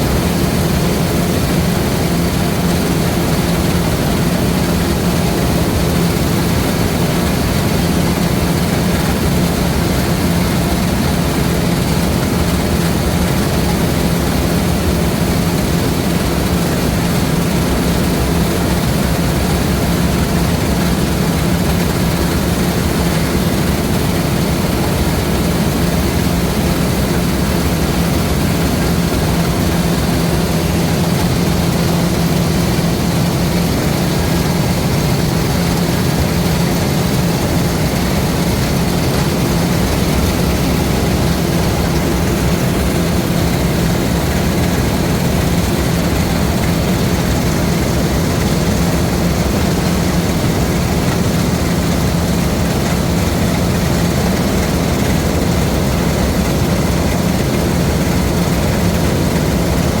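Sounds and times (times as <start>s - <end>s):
combine harvester engine hum: 0.0s - 60.0s.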